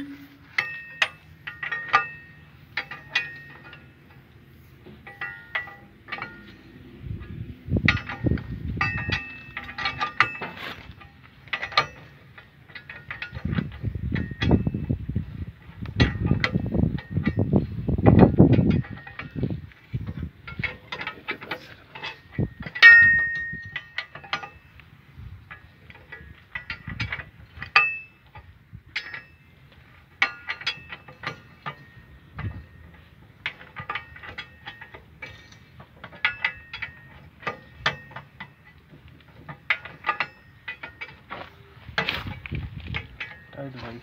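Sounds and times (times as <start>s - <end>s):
ringing metal clank: 0.0s - 15.0s, 16.0s - 24.8s, 25.5s - 44.0s.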